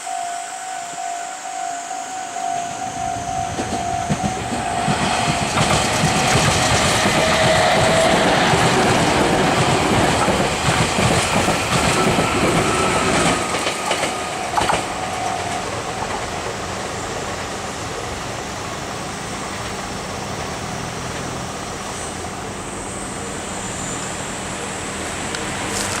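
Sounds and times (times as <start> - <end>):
train wheels clattering on rails: 2.5 - 22.3, 23.2 - 26.0.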